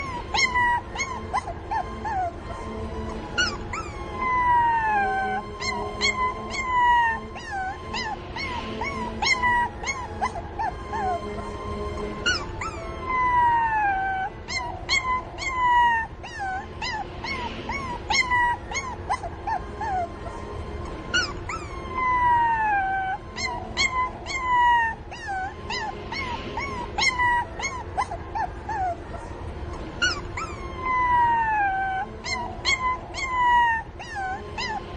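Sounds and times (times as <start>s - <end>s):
puppies whining and yelping: 0.0s - 34.9s.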